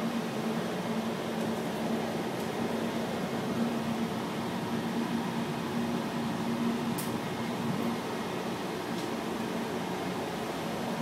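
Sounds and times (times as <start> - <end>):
tramway cabin hum and hiss: 0.0 - 11.0.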